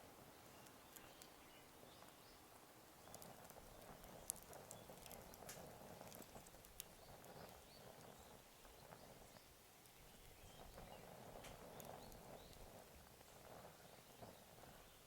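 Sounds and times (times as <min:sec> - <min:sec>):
campfire crackling: 0:00.3 - 0:15.0.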